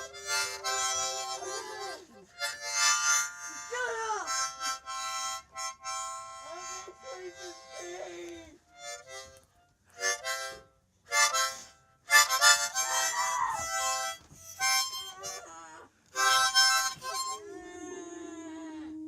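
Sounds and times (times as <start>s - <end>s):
harmonica chords: 0.0s - 17.9s.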